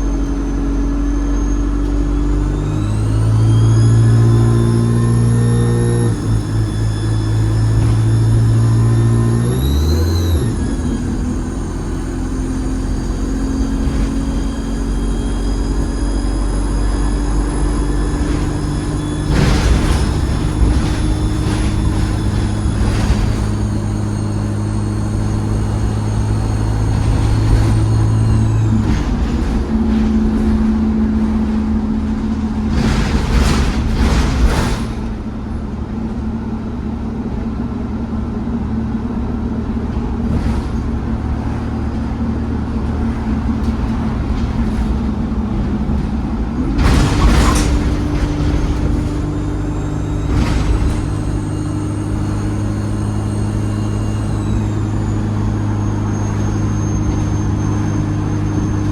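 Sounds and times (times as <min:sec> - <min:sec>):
bus diesel engine: 0:00.0 - 0:58.9.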